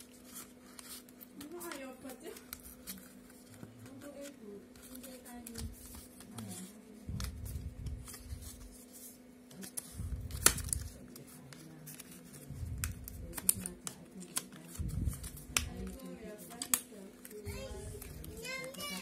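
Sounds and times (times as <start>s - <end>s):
plastic packaging rustling: 0.0s - 19.0s.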